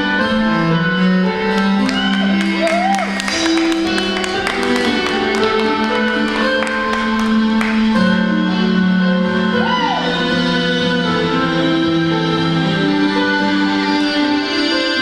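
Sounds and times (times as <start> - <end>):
slow music with held notes: 0.0 - 15.0.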